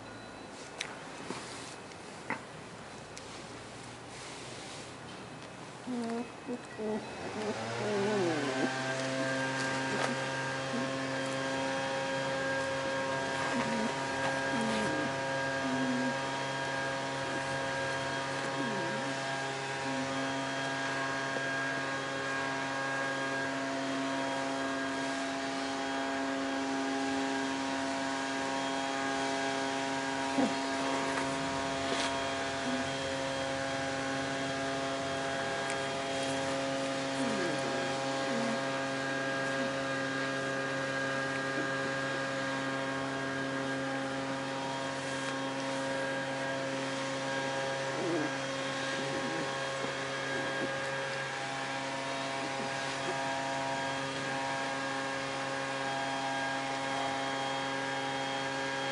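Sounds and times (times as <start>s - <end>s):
steady hum: 0.0s - 58.9s.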